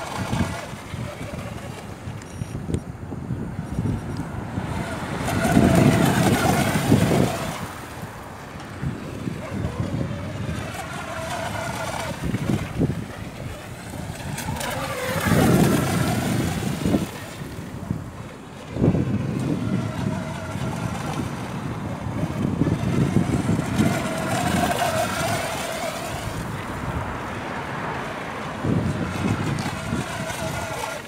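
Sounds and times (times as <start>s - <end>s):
electric boat motor whine: 0.0s - 31.0s
wind buffeting microphone: 0.0s - 31.0s.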